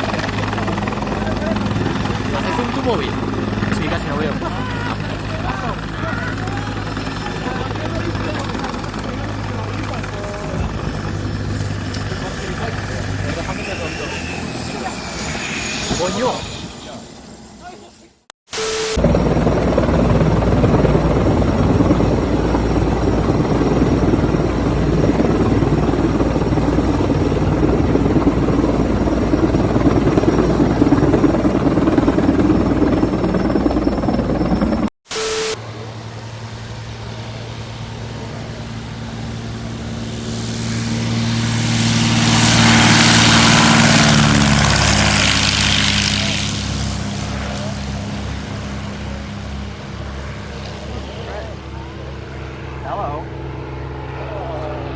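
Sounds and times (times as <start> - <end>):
pitched engine drone: 0.0 - 17.7, 18.5 - 54.9
helicopter rotor and engine: 0.0 - 54.9.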